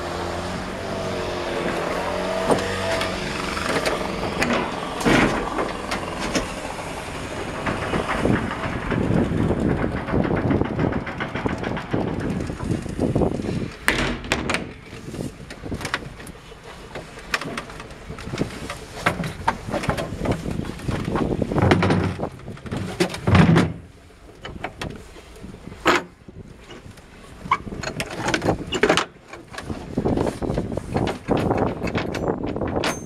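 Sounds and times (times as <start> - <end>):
rough rumble: 0.0 - 33.0.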